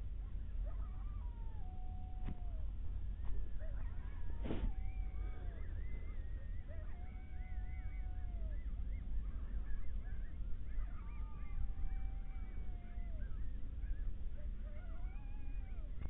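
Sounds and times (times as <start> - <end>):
coyotes howling: 0.0 - 16.0
coyotes yipping: 0.0 - 16.0
steady low rumble: 0.0 - 16.0.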